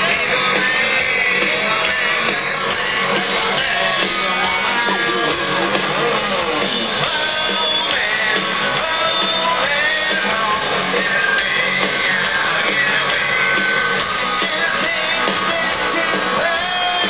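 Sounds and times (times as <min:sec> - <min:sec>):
electric guitar: 0:00.0 - 0:17.0
live rock band: 0:00.0 - 0:17.0.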